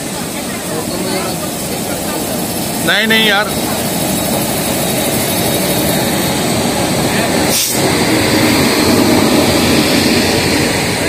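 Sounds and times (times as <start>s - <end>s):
loud train running noise: 0.0s - 11.0s.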